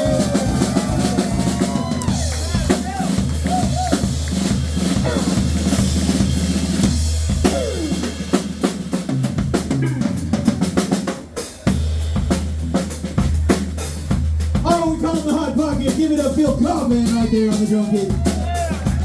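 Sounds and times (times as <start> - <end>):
bass drum hits: 0.0 - 17.4
sustained low bass notes: 0.0 - 19.0.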